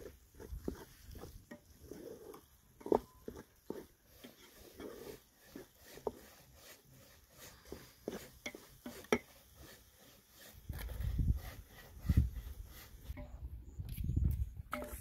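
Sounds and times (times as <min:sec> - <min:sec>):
wooden spoon stirring pot: 0:00.0 - 0:13.3.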